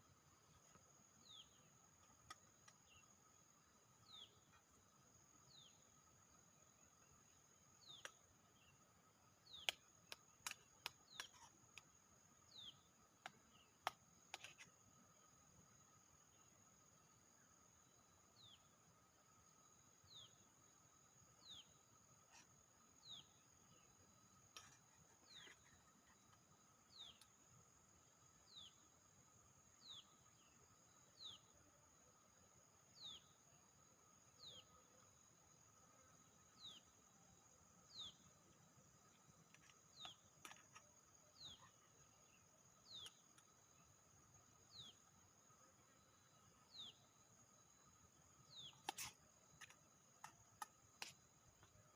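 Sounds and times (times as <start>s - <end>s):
faint high-pitched whine: 0.0s - 51.9s.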